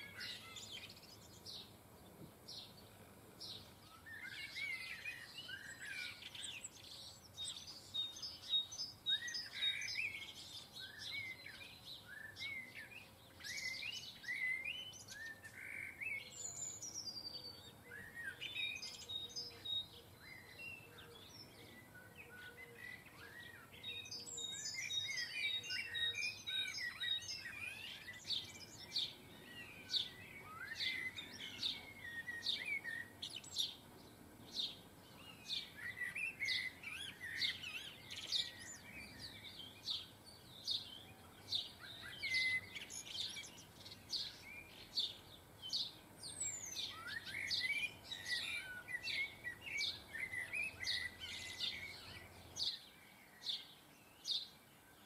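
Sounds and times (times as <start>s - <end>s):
goldfinches chirping: 0.0s - 55.0s.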